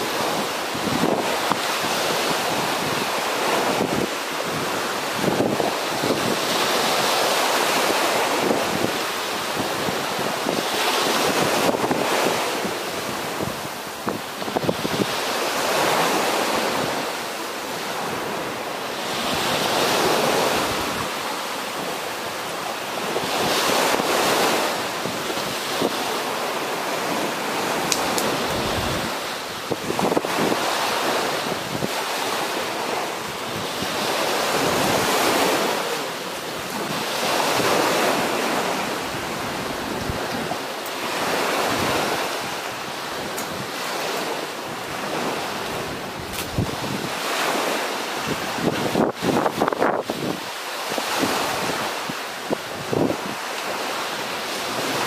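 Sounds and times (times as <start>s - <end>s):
surf breaking on beach: 0.0s - 55.0s
wind buffeting microphone: 0.0s - 55.0s.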